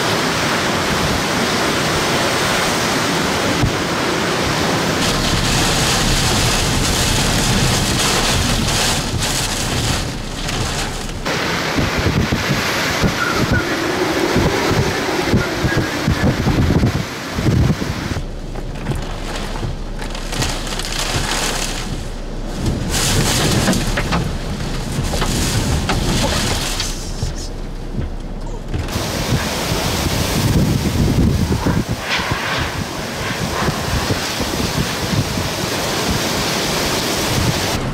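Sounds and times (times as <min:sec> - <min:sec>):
wind-driven heavy rain roaring: 0:00.0 - 0:37.9.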